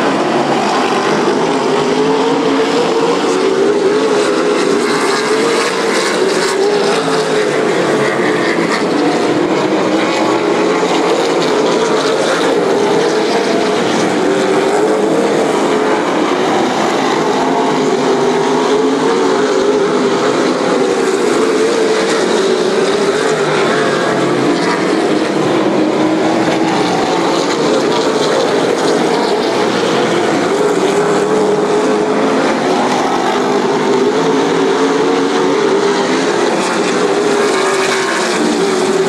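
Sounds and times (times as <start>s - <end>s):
race car engines: 0.0s - 39.0s.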